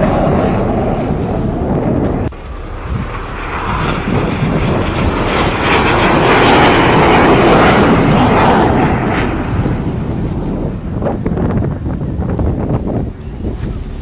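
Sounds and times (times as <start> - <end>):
fighter jets flying past: 0.0 - 14.0.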